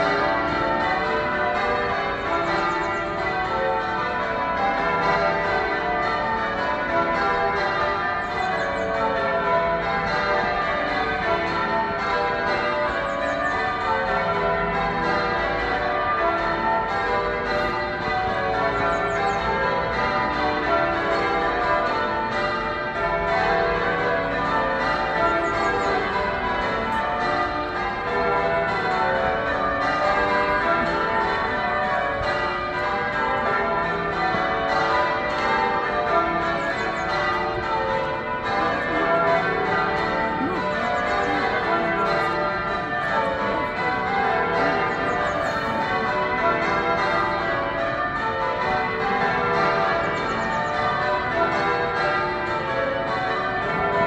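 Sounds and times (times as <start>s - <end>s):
church tower bells ringing: 0.0s - 54.0s.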